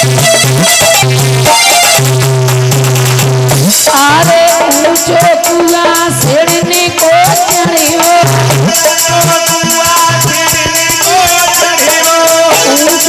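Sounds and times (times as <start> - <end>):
folk music over loudspeaker: 0.0 - 13.0.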